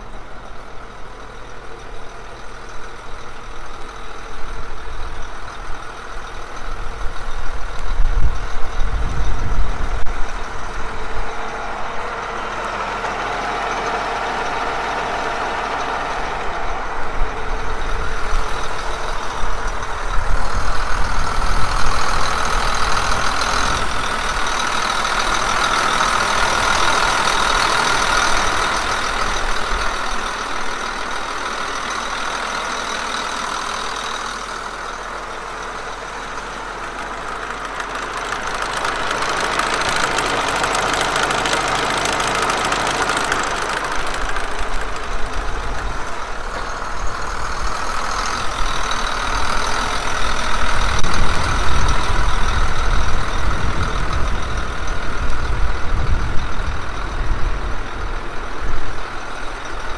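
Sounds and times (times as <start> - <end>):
steady high whine: 0.0 - 59.9
tractor diesel engine idling: 0.0 - 59.9.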